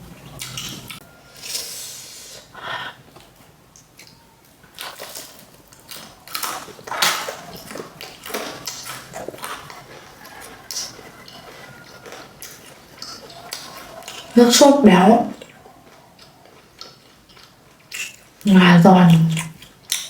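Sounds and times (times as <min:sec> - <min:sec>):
crunching and chewing fried chicken: 0:00.2 - 0:01.8, 0:02.4 - 0:18.5, 0:19.1 - 0:20.0.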